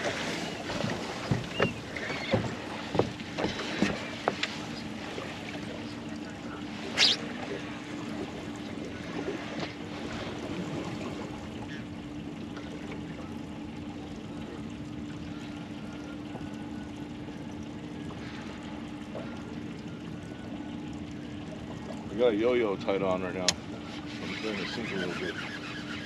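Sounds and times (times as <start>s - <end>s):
boat engine low hum: 0.0s - 26.0s
water lapping on hull: 0.0s - 26.0s.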